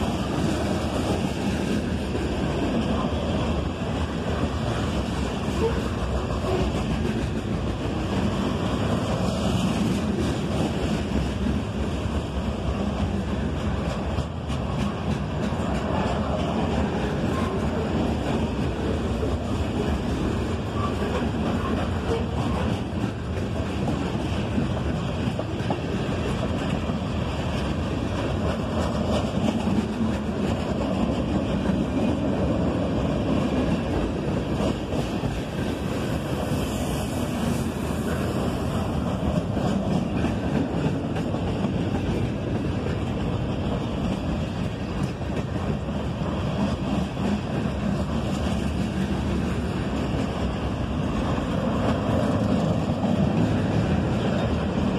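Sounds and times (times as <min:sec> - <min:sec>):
freight train wheels rumbling: 0:00.0 - 0:54.9.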